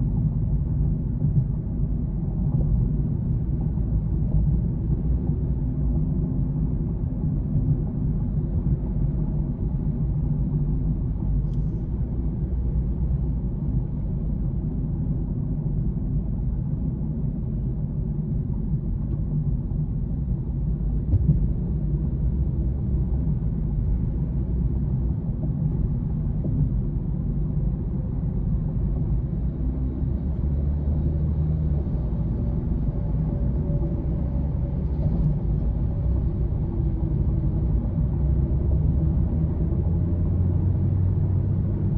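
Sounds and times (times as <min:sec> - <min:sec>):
low outdoor ambient rumble: 0:00.0 - 0:41.9.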